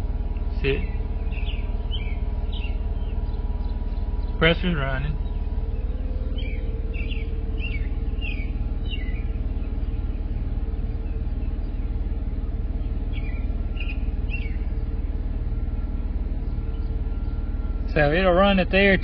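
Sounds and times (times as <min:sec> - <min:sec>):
car engine idling: 0:00.0 - 0:19.0
small bird chirping: 0:00.3 - 0:18.1.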